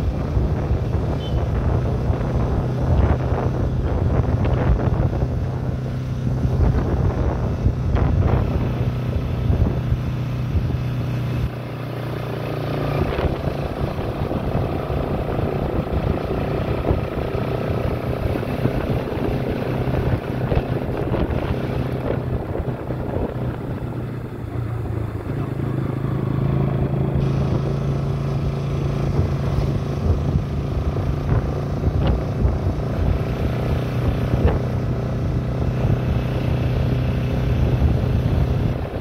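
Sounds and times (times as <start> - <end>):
motorcycle engine running: 0.0 - 39.0
wind rumble on microphone: 0.0 - 39.0.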